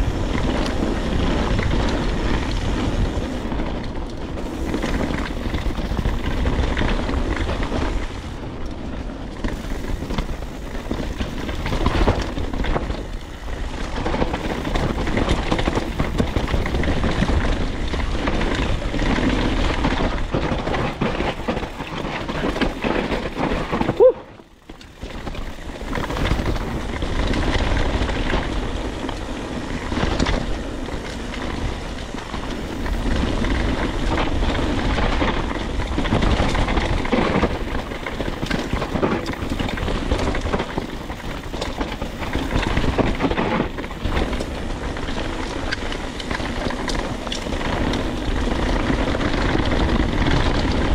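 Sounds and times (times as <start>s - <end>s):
bike rumbling and rattling: 0.0s - 50.9s.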